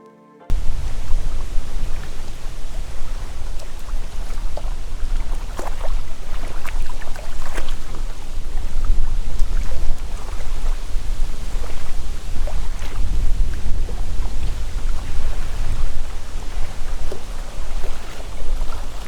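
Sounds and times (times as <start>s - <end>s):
small crackles: 0.5s - 19.0s
wind buffeting microphone: 0.5s - 19.0s
wind rustling leaves: 0.5s - 19.0s.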